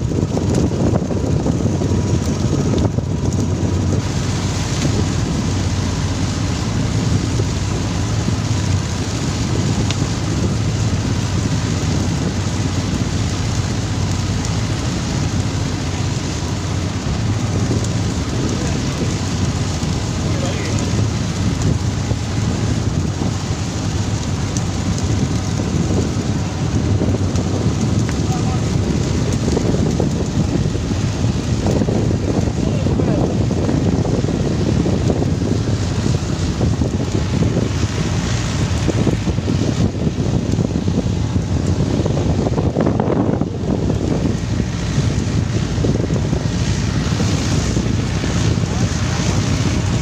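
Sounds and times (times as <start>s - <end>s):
boat engine rumble: 0.0s - 50.0s
rushing sea water: 0.0s - 50.0s
wind buffeting microphone: 0.0s - 50.0s.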